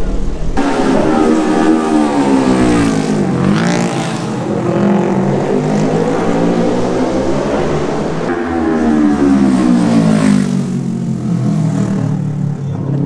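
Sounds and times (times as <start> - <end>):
racing motorcycle engines: 0.0 - 13.0.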